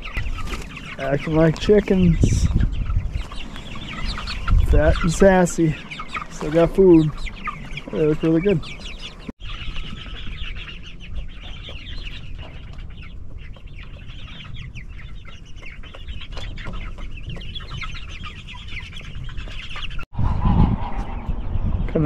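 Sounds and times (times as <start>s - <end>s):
chickens peeping and clucking: 0.0s - 22.0s.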